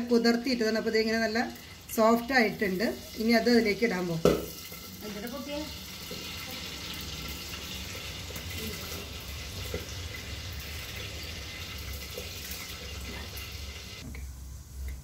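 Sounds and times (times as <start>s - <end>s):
water boiling in a pot: 0.0s - 15.0s.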